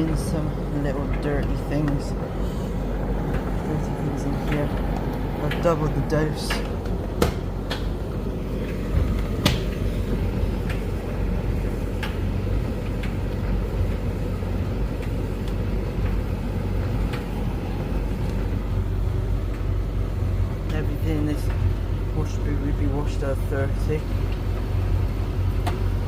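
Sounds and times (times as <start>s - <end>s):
tumble dryer running: 0.0s - 26.0s.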